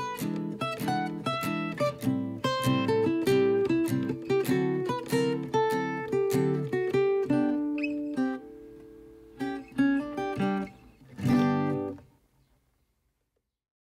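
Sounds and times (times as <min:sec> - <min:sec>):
acoustic guitar music: 0:00.0 - 0:12.3.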